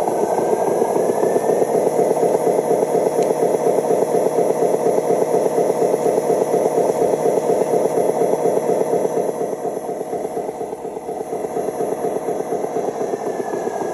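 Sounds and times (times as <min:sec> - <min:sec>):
simulated diesel engine chugging: 0:00.0 - 0:13.9.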